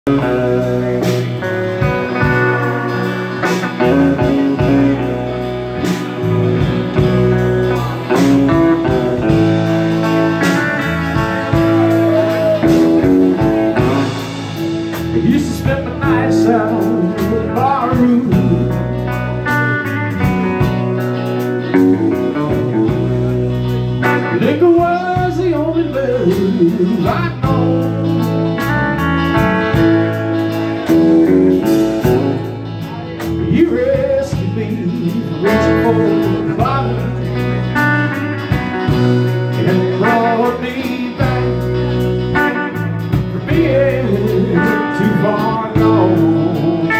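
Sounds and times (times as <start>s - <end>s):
man singing: 0.0s - 20.8s, 21.4s - 46.9s
electric bass: 0.0s - 46.9s
electric guitar: 0.0s - 46.9s
live blues band playing: 0.0s - 46.9s
drum kit with cymbal strokes: 0.1s - 46.9s.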